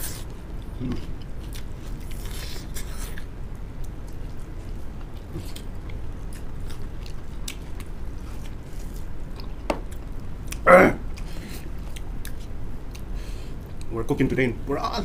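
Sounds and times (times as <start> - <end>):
people chewing and biting food: 0.0 - 13.9
steady low hum: 0.0 - 15.0.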